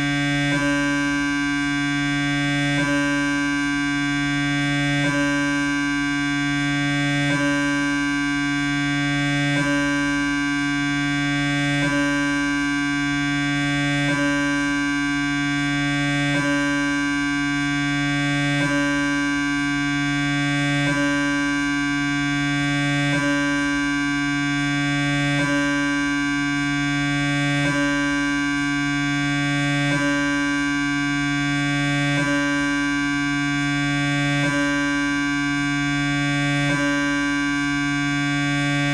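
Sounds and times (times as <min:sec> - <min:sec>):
mri scanner buzzing: 0:00.0 - 0:38.9.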